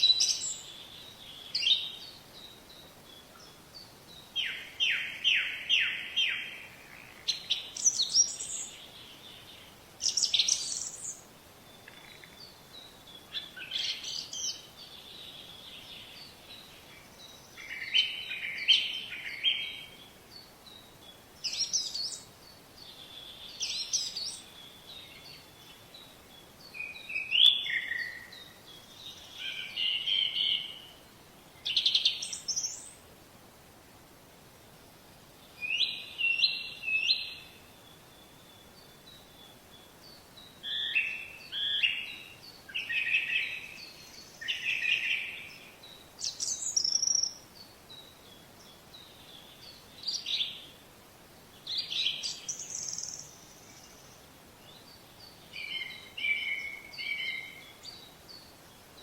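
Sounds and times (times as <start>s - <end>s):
songbirds chirping and whistling: 0.0s - 33.0s, 35.3s - 59.0s
faint steady hiss: 0.0s - 59.0s.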